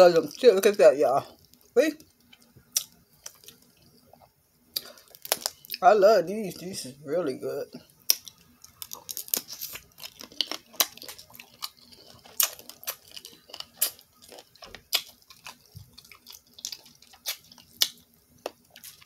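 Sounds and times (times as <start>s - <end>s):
wet chewing and mouth smacks: 1.4s - 5.8s, 8.1s - 19.0s.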